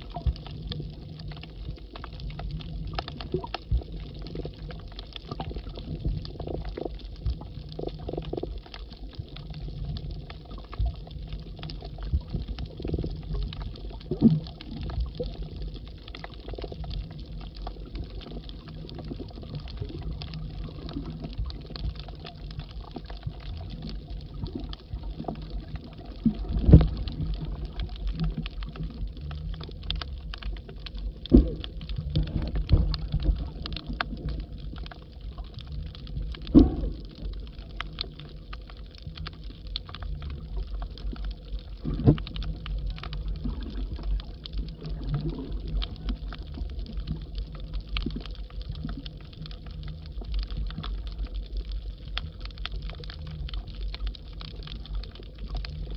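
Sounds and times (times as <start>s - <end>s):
fine crackle of small clicks: 0.0s - 55.9s
underwater rumble of moving water: 0.0s - 55.9s.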